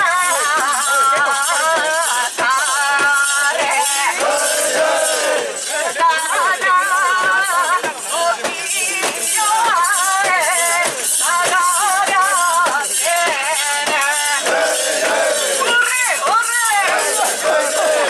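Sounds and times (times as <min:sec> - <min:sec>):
metallic rattling and jingles: 0:00.0 - 0:18.0
people singing and chanting: 0:00.0 - 0:18.0.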